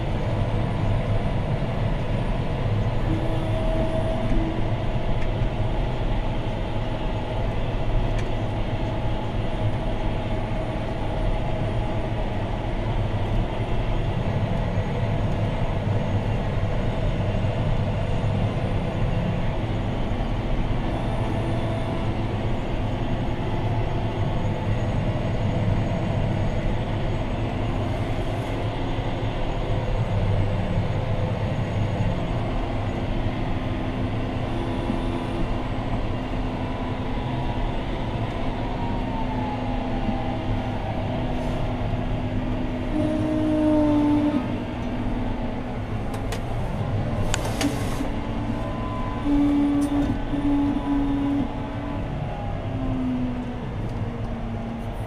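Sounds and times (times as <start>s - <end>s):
tractor diesel engine drone: 0.0s - 55.0s.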